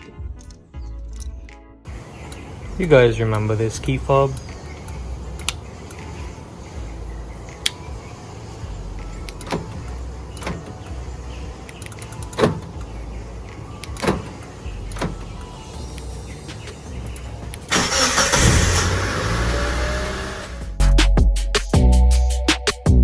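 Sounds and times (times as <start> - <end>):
car door locks clunking: 1.9 - 20.7.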